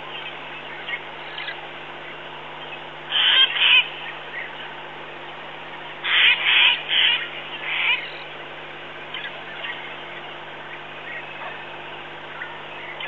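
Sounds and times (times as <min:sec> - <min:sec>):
nightjar calling: 0:00.0 - 0:13.0.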